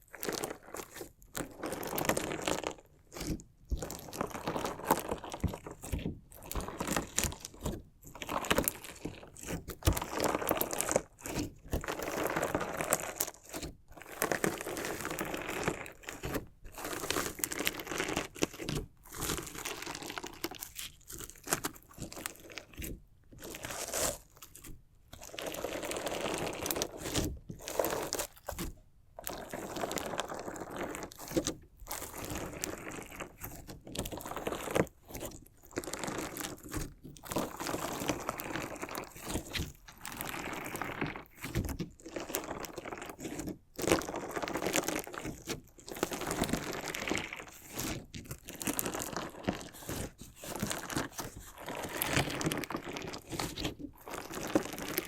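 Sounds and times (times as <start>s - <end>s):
crunchy slime crackle: 0.0s - 55.0s.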